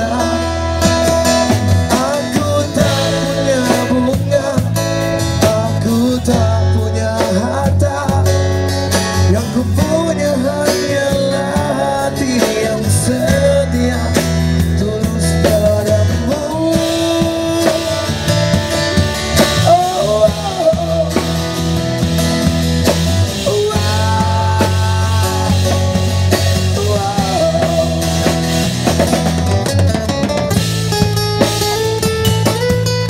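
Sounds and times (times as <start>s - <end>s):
drum kit: 0.0s - 33.0s
guitar: 0.0s - 33.0s
steady bass: 0.0s - 33.0s.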